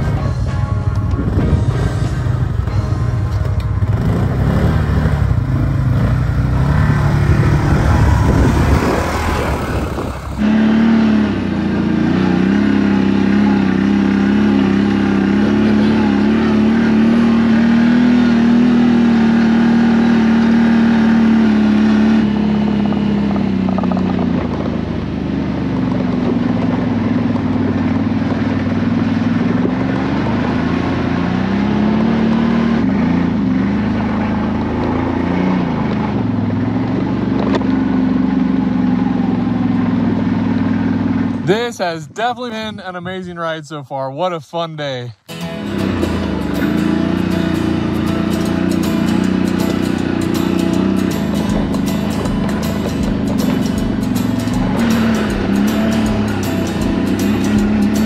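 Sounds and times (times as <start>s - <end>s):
atv engine running: 0.0s - 42.7s, 45.3s - 58.0s.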